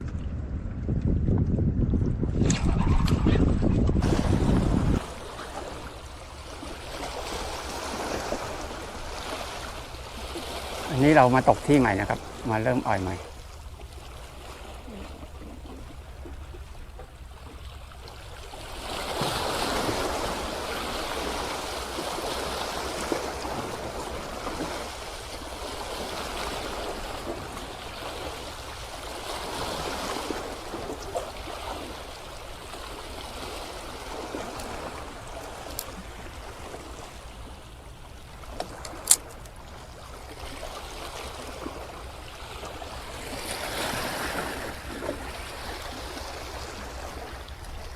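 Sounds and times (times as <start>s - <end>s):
sea water washing against rocks: 2.4s - 47.9s.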